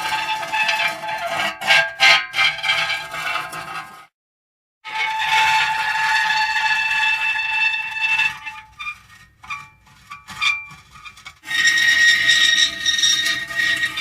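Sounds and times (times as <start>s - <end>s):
metal squealing and creaking: 0.0s - 4.0s, 4.9s - 14.0s.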